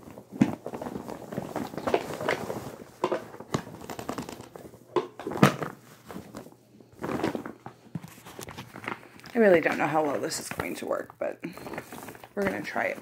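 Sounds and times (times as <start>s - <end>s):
bag rustling and crinkling: 0.0s - 13.0s.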